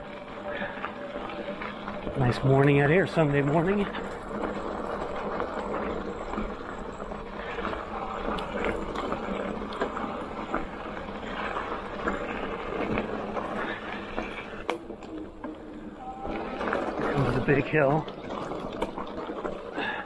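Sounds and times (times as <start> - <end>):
bike jolting over rocks: 0.0 - 20.0
tyres crunching on gravel: 0.0 - 20.0.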